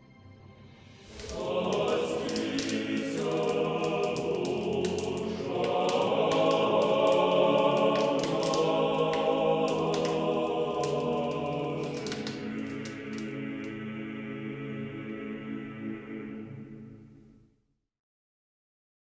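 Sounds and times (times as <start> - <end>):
choir singing a slow chant: 0.6 - 17.4.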